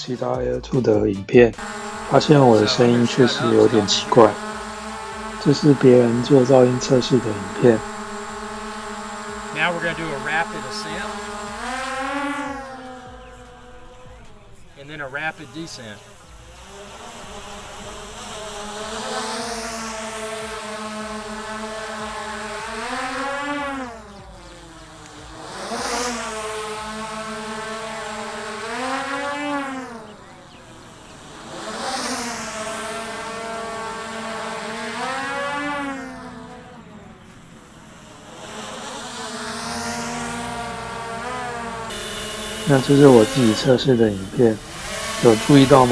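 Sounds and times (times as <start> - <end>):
drone propellers whining: 1.6 - 45.9.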